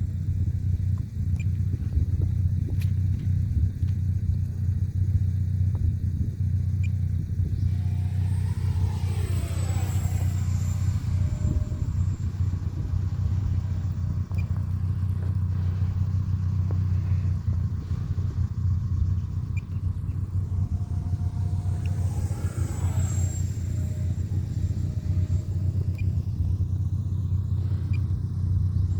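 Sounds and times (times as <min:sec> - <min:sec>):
electric ducted fan whine: 0:00.0 - 0:28.9
steady low rumble: 0:00.0 - 0:28.9.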